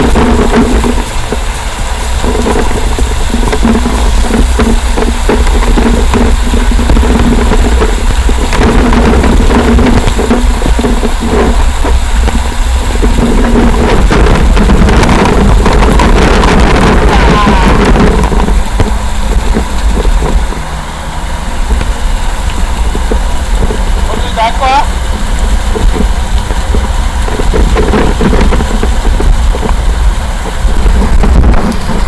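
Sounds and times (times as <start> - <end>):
droning tone: 0.0 - 32.0
road noise: 0.0 - 32.0
vehicle engine rumble: 0.0 - 32.0.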